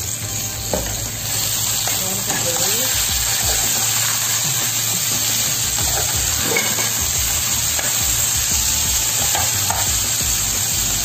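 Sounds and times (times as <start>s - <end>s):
ribs sizzling in hot oil: 0.0s - 11.0s
spatula scraping a pan: 0.8s - 10.2s.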